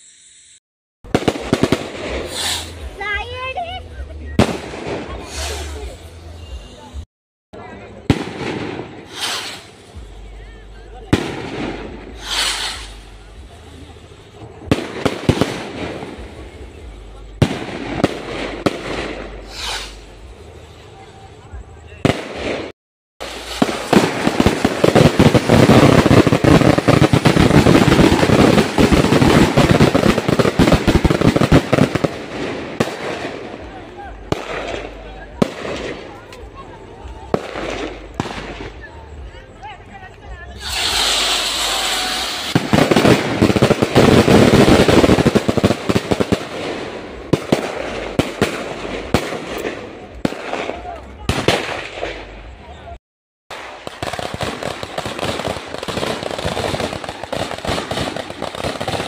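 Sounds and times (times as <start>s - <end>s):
fireworks cracking bangs: 1.0s - 7.0s, 7.6s - 59.0s.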